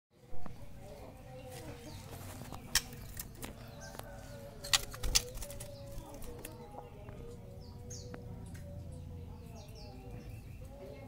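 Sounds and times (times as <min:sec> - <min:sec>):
birds calling: 0:00.4 - 0:11.0.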